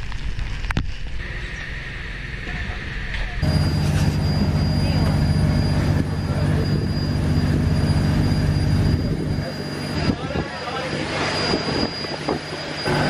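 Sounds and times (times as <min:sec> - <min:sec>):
boat engine droning: 0:01.2 - 0:13.0.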